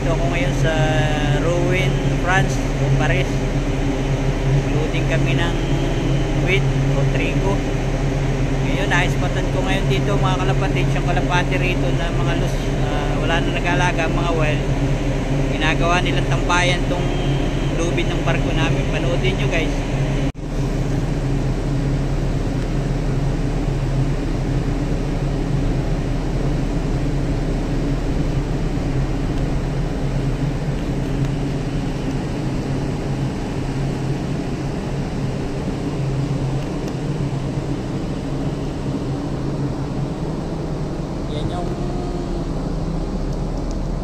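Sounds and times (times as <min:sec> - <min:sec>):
ship machinery droning: 0:00.0 - 0:44.0.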